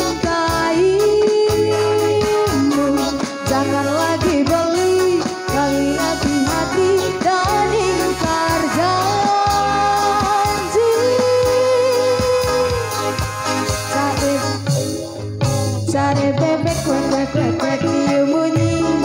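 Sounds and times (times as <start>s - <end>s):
street band playing amplified music: 0.0s - 19.0s.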